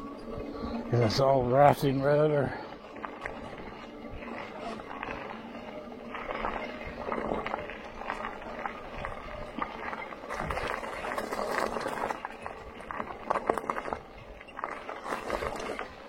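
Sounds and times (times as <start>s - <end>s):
bike rattling on rough trail: 0.0s - 16.0s.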